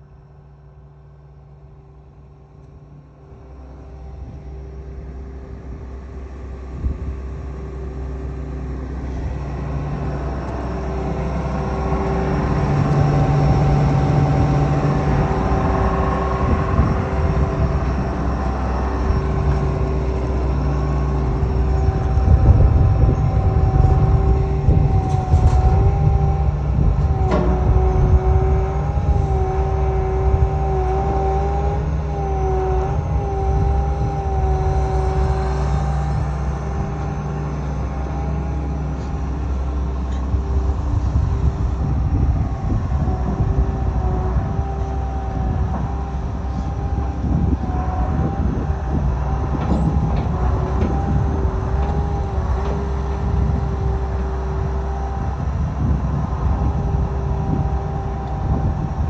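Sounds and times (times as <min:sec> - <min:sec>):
excavator diesel engine whine: 0:00.0 - 0:59.0
hydraulic whine wavering: 0:00.0 - 0:59.0.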